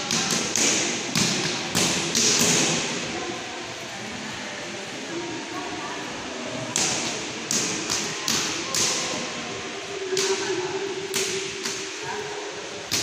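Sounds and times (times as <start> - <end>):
steady gym hiss: 0.0 - 13.0.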